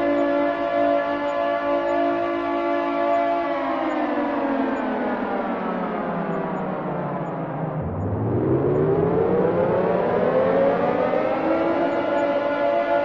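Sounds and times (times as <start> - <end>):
air raid siren wailing: 0.0 - 13.0.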